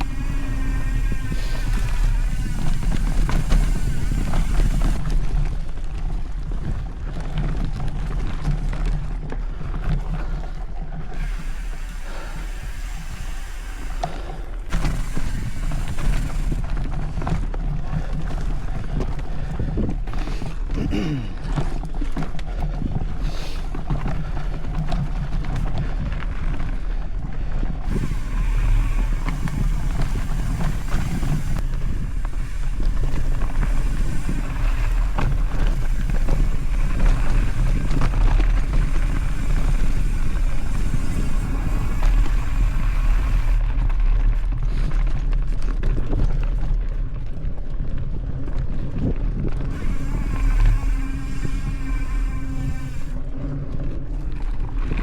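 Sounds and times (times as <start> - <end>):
bike rattling: 0.0 - 55.0
bike tyre rumble on dirt: 0.0 - 55.0
wind buffeting microphone: 0.0 - 55.0.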